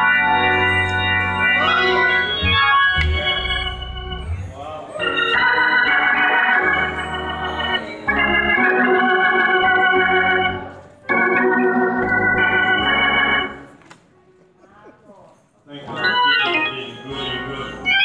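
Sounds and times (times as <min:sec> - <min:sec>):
organ playing gospel chords: 0:00.0 - 0:13.8, 0:15.9 - 0:18.0.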